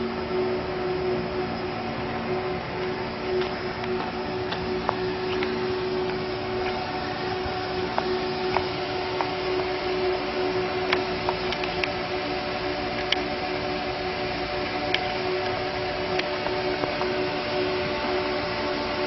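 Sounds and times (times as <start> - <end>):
small machine humming: 0.0 - 19.0.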